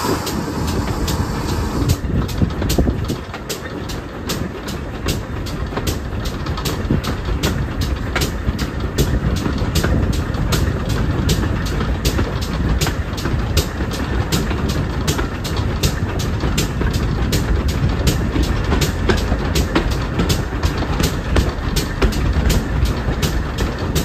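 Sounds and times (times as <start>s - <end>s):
rapid sharp track clicks: 0.0s - 24.0s
train rumbling on track: 0.0s - 24.0s.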